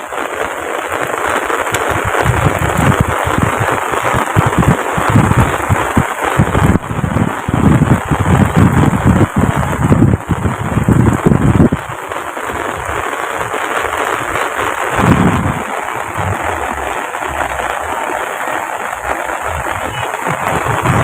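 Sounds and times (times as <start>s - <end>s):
heavy rain pouring: 0.0s - 21.0s
low thumps and crackle: 0.0s - 21.0s.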